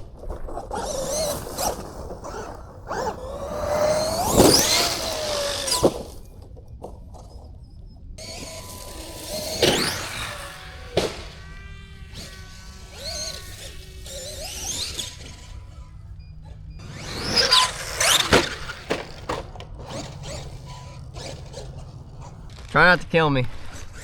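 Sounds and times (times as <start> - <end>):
toy truck crashing on landing: 0.0 - 7.5, 8.2 - 22.8
electric motor whining: 0.0 - 24.0.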